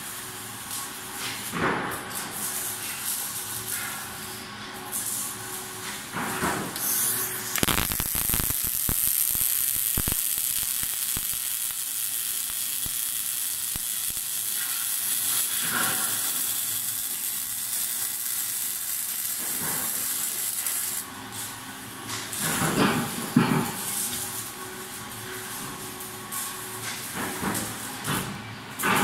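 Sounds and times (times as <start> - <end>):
welding arc crackling hiss: 0.0 - 29.0.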